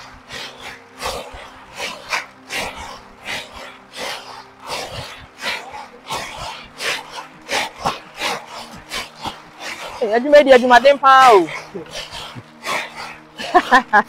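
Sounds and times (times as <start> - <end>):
nuts rasping against woven basket: 0.0 - 14.0.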